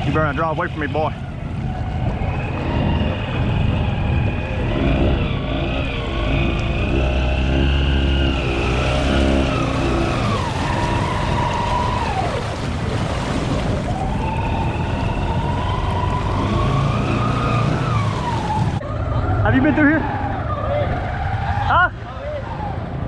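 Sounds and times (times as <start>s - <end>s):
atv engine pulling hard: 0.0s - 23.0s
churned water and mud: 0.0s - 23.0s.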